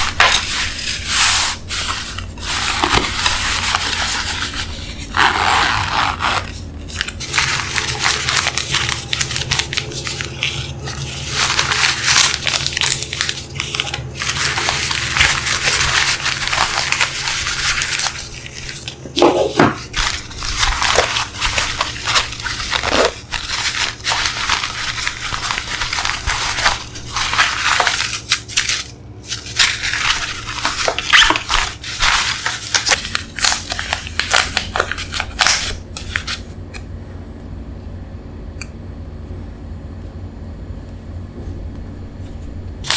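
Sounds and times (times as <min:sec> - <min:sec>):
packaging crinkling and rustling: 0:00.0 - 0:36.5.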